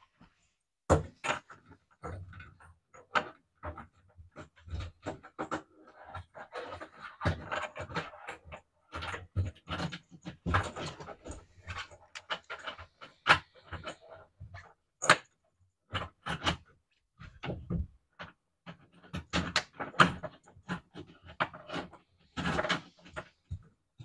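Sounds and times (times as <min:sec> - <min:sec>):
rustling and scraping of plastic hose: 0:00.0 - 0:24.0.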